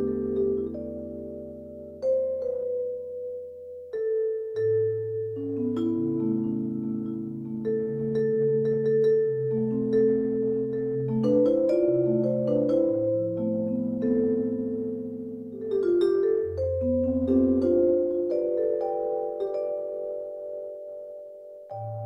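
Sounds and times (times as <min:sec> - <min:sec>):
vibraphone chords ringing: 0:00.0 - 0:22.0.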